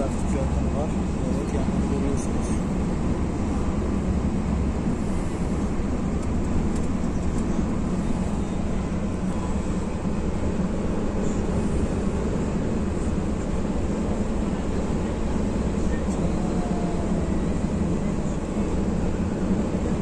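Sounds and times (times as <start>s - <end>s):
bus engine and tyre rumble: 0.0s - 20.0s.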